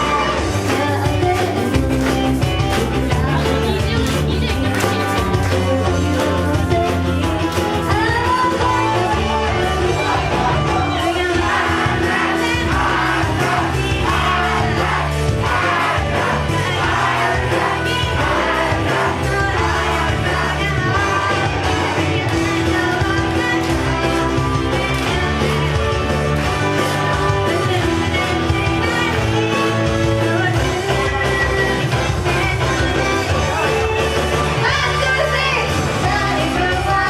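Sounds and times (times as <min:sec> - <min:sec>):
pop song with singing: 0:00.0 - 0:37.0.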